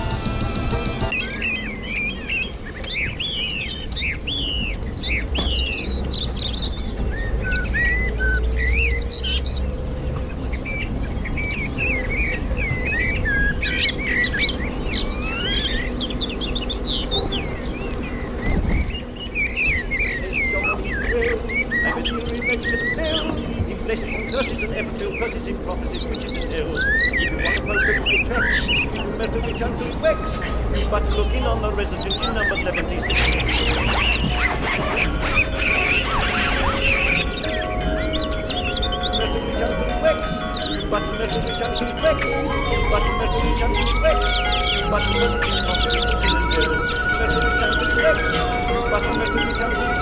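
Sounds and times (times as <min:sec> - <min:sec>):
songbirds chirping and singing: 0:00.0 - 0:50.0.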